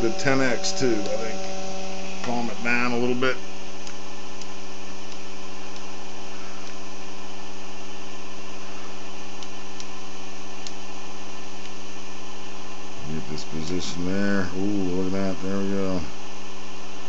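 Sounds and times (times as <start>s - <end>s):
electrical hum of motor: 0.0s - 17.0s.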